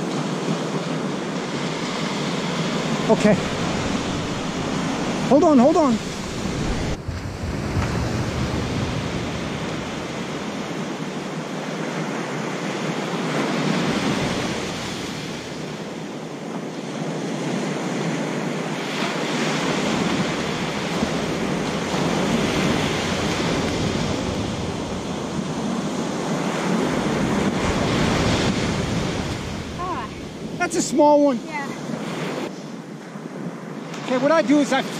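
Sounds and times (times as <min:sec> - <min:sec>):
ocean surf breaking on beach: 0:00.0 - 0:34.9
wind buffeting microphone: 0:00.0 - 0:34.9.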